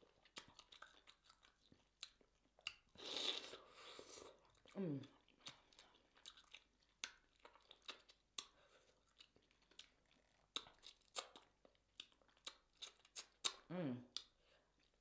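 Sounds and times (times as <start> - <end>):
person chewing and sucking: 0.0 - 15.0.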